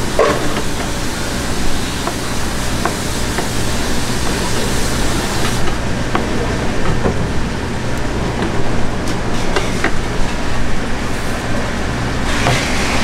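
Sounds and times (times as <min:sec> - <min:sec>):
market background hum: 0:00.0 - 0:13.0.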